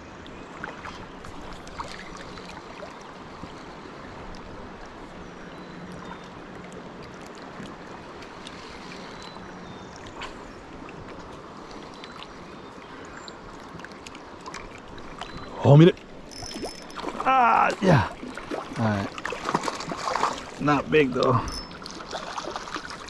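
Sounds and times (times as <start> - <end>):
moving water: 0.0 - 23.0
wind: 0.0 - 23.0.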